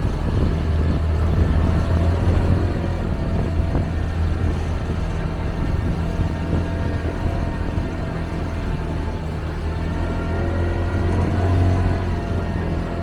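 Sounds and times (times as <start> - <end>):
boat engine humming: 0.0 - 13.0
water wash: 0.0 - 13.0.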